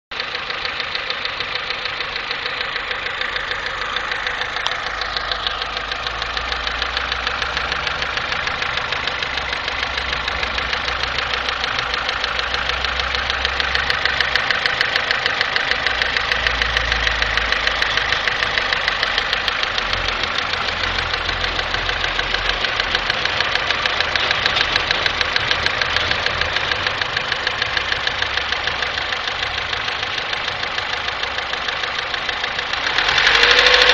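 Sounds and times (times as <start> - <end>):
car engine knocking: 0.1 - 33.9.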